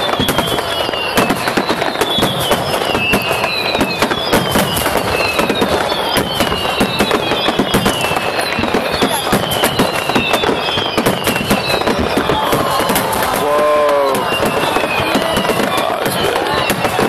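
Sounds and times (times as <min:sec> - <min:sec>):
falling firework whistle: 0:00.0 - 0:17.0
firework bangs and crackles: 0:00.0 - 0:17.0.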